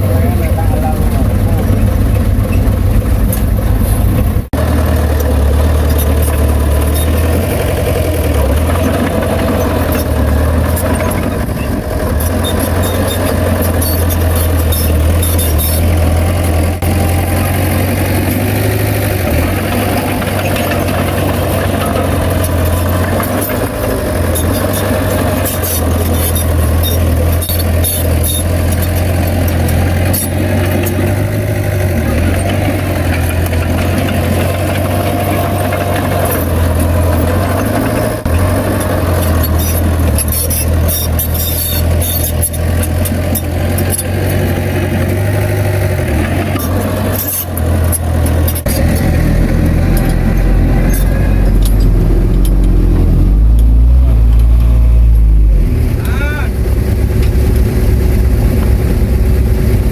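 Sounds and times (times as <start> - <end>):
diesel engine running: 0.0 - 59.9
metallic clanks and rattles: 0.4 - 17.4, 18.3 - 55.2.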